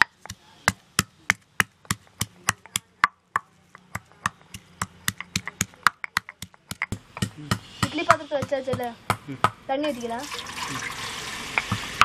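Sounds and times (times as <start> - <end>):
stone pestle pounding in mortar: 0.0 - 9.6, 11.6 - 12.0.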